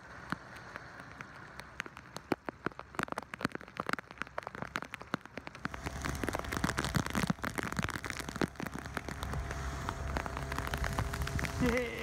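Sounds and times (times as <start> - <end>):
heavy rain on the sea: 0.0 - 12.0
raindrops tapping nearby: 0.0 - 12.0.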